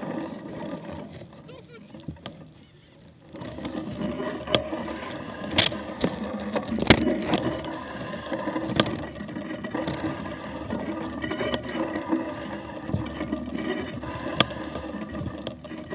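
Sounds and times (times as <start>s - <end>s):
mountain bike rattling over grass: 0.0s - 15.9s.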